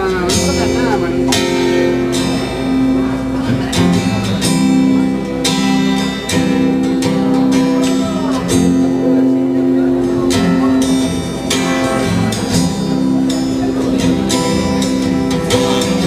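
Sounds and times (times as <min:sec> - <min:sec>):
strummed guitar chords: 0:00.0 - 0:16.0
sustained bass: 0:00.0 - 0:16.0.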